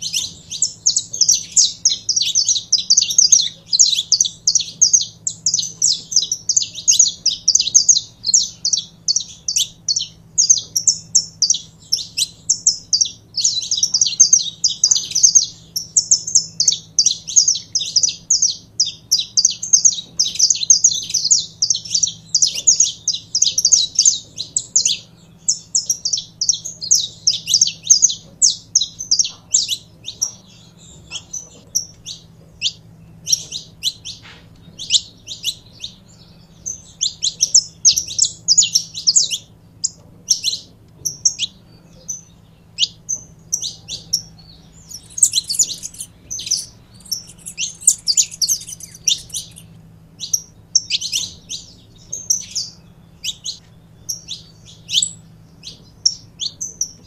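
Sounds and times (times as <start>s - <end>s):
finches chipping and twittering: 0.0s - 57.0s.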